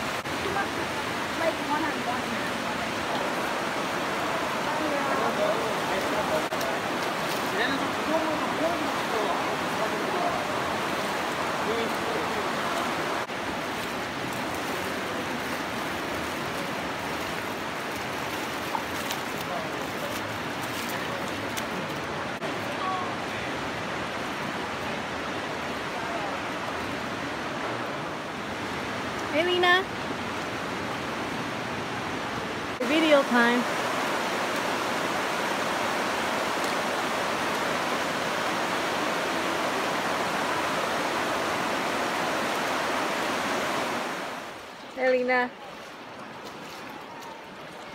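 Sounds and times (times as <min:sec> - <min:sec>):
water rushing over rocks: 0:00.0 - 0:47.9.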